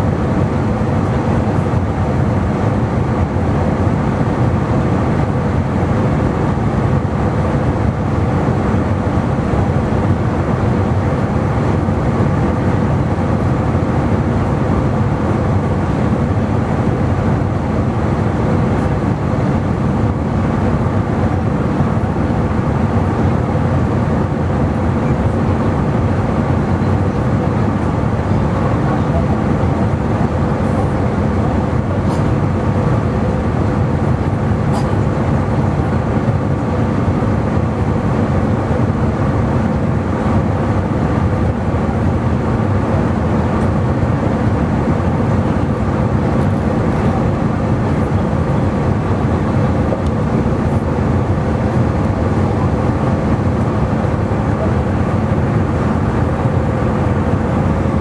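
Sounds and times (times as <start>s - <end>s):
airflow rumble: 0.0s - 58.0s
jet engine drone: 0.0s - 58.0s
steady hum tones: 0.0s - 58.0s.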